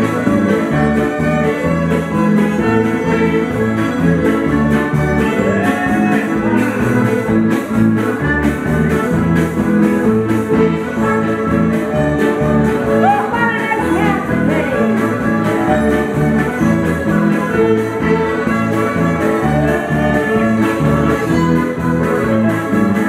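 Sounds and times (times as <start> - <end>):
band accompaniment with bass: 0.0 - 23.0
fiddle playing lively tune: 0.0 - 23.0.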